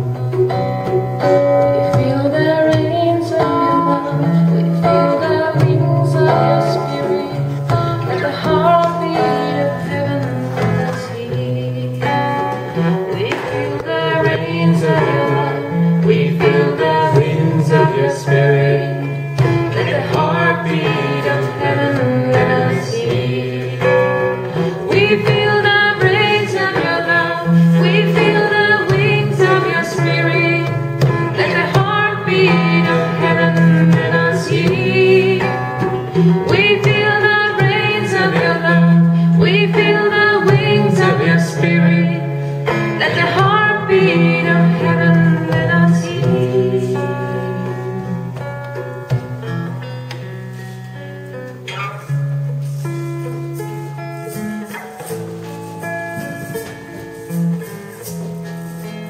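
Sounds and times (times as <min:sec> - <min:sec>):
acoustic guitar strumming: 0:00.0 - 0:59.0
hand drum: 0:00.0 - 0:59.0
woman singing: 0:01.2 - 0:48.5.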